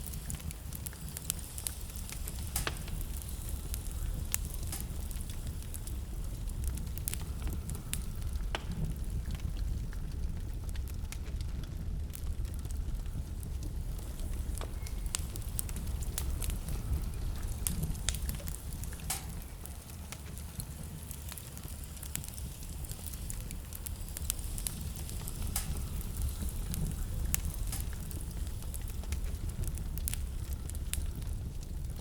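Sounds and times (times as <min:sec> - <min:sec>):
low steady rumble: 0:00.0 - 0:32.0
wood fire crackling: 0:00.0 - 0:32.0.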